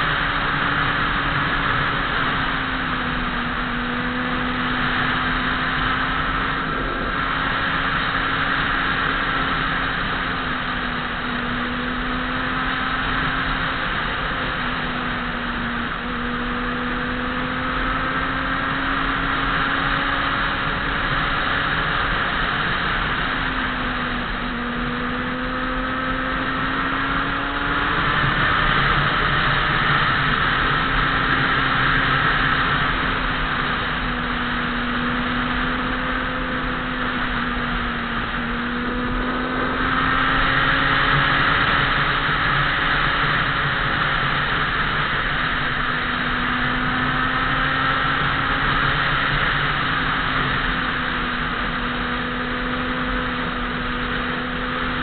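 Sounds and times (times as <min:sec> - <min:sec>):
vehicle engine running: 0:00.0 - 0:55.0
wind and road noise: 0:00.0 - 0:55.0.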